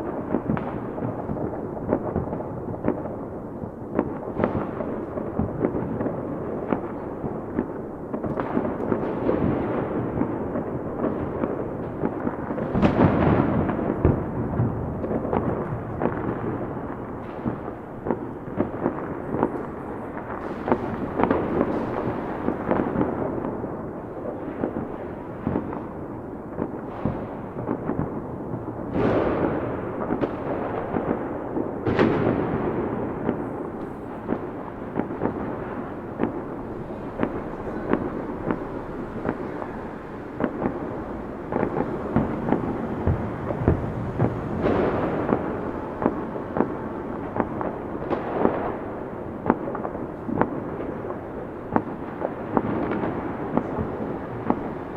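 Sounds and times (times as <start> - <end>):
fireworks bangs and crackles: 0.0 - 54.9
loud firework booms: 0.0 - 54.9.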